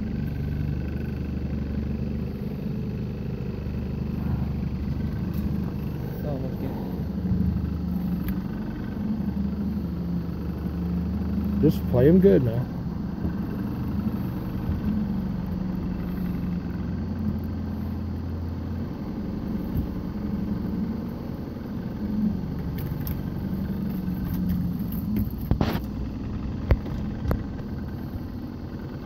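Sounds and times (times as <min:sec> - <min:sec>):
boat motor running: 0:00.0 - 0:29.0.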